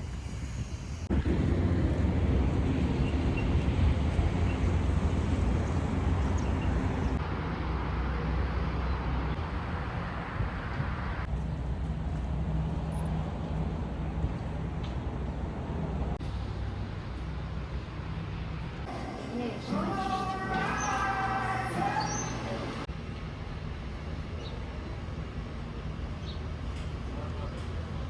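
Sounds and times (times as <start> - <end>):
moving vehicle rumble: 0.0 - 28.0.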